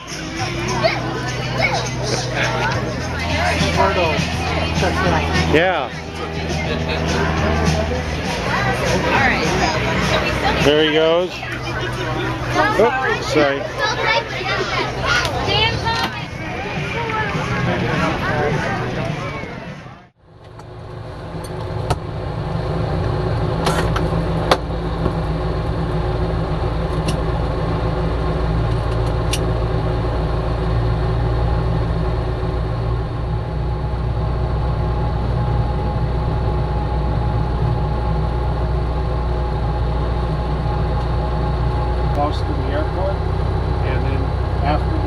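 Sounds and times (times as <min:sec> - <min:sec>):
light airplane engine droning: 0:00.0 - 0:45.0.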